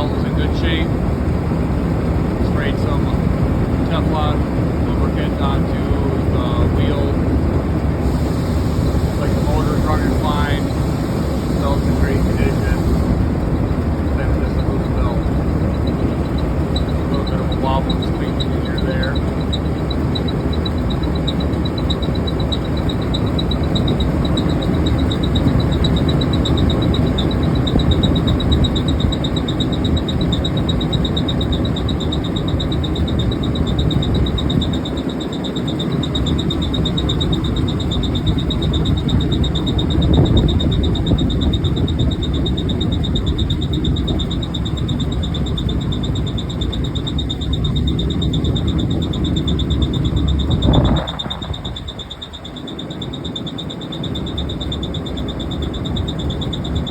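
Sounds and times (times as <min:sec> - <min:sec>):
exhaust fan running: 0:00.0 - 0:56.9
high-pitched chirping squeal: 0:08.0 - 0:56.9.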